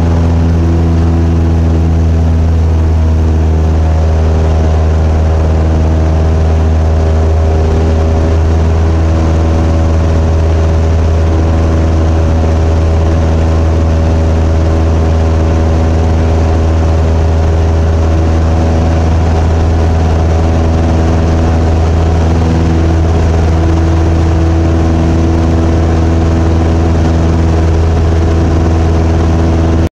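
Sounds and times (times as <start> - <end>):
airplane engine drone: 0.0 - 29.9.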